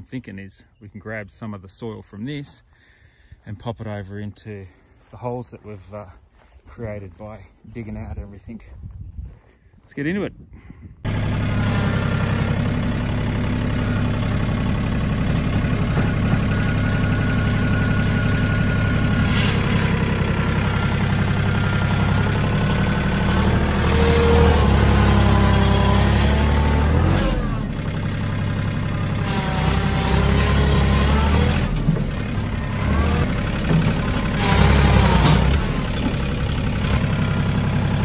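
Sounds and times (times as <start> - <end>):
tractor diesel engine running: 1.0 - 9.9, 11.0 - 38.0.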